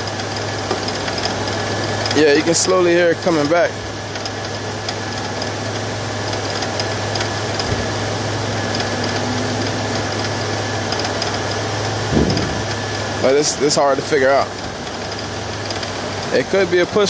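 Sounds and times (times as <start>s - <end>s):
car engine idling: 0.0s - 17.0s
engine knocking: 0.0s - 17.0s.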